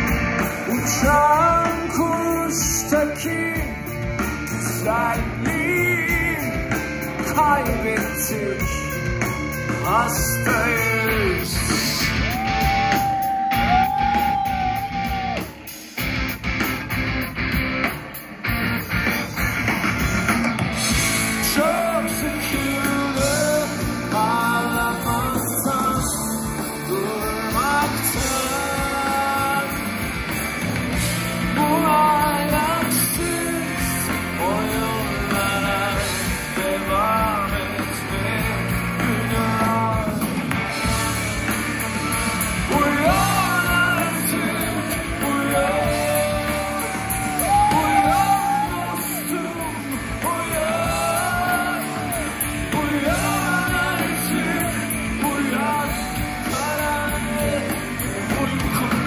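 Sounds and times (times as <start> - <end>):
person singing: 0.0 - 15.6, 20.9 - 59.0
live rock band playing: 0.0 - 59.0.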